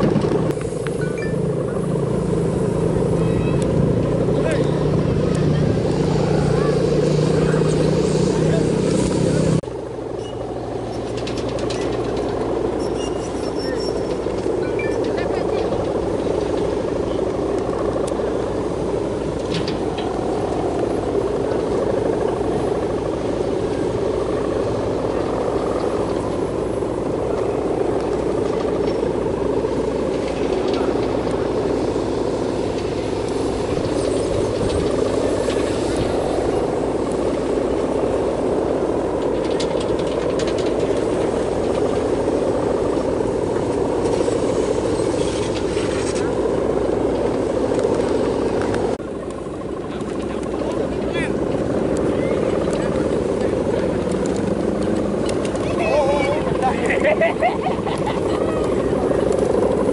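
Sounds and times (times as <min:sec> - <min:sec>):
kite hummer bows droning: 0:00.0 - 0:59.9.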